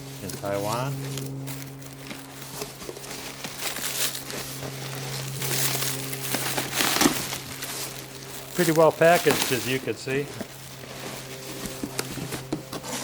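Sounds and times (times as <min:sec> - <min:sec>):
packaging rustling and crinkling: 0:00.0 - 0:13.0
steady low hum: 0:00.0 - 0:13.0.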